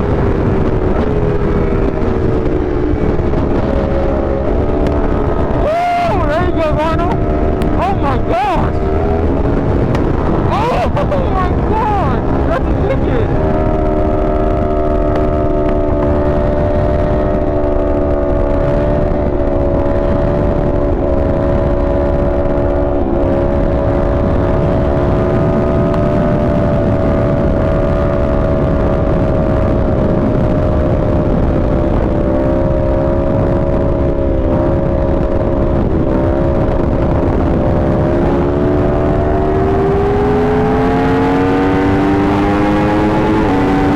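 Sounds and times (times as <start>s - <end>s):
motorcycle engine cruising: 0.0s - 43.9s
wind rush: 0.0s - 43.9s.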